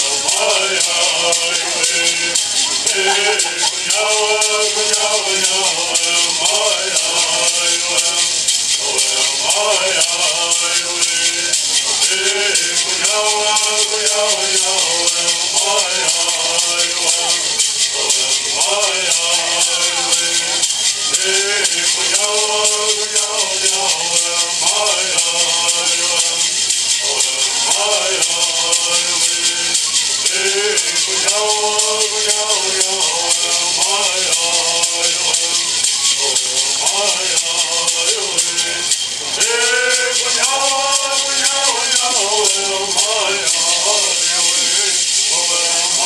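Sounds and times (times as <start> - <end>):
gourd rattle shaking: 0.0 - 46.0
men's group singing: 0.0 - 46.0.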